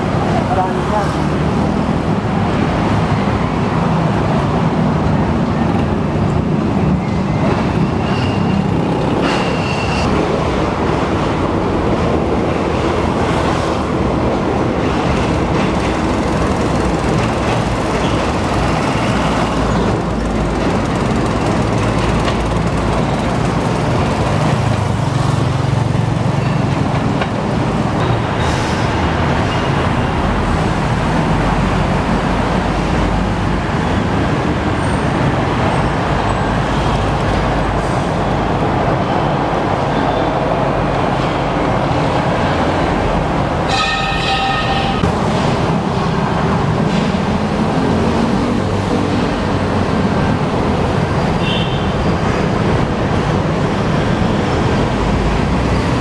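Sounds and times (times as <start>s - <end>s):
city road traffic: 0.0s - 56.0s
diesel train engine rumble: 0.0s - 56.0s.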